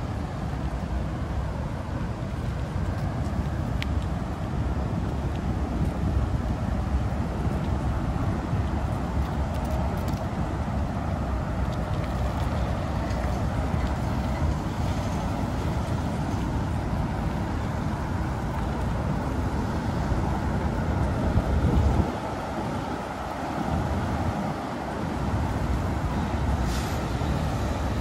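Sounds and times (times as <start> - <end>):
bicycle tyre noise on pavement: 0.0 - 28.0
wind buffeting microphone: 0.0 - 28.0.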